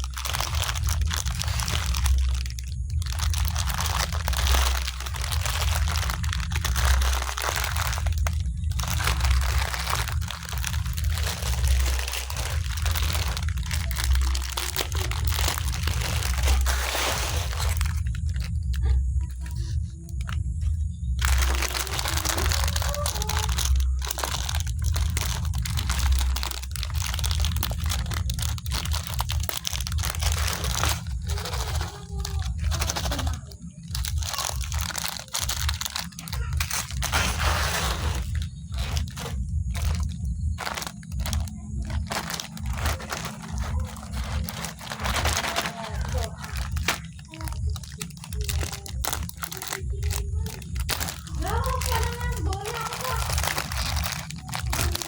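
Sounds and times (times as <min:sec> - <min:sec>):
crunching crispy biscuits: 0:00.0 - 0:55.0
packaging crinkling: 0:00.0 - 0:55.0.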